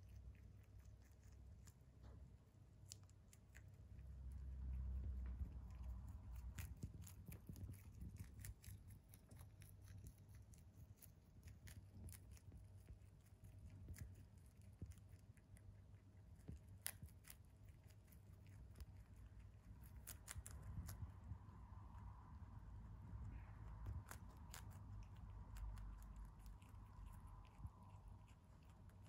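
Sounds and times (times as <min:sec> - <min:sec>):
rabbit chewing: 0:00.0 - 0:29.0
soft low rumble: 0:00.0 - 0:29.0.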